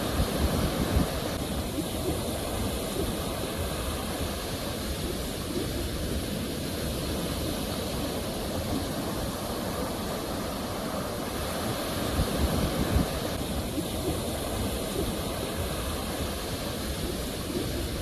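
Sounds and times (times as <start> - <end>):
waves washing on shore: 0.0 - 18.0.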